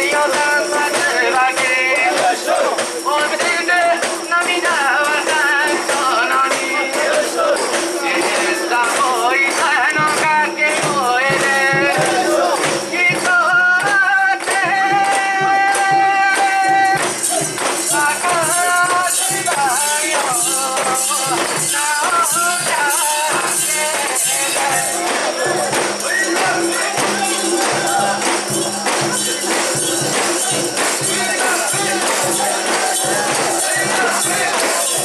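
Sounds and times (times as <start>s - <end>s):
rhythmic metallic jingling: 0.0s - 35.0s.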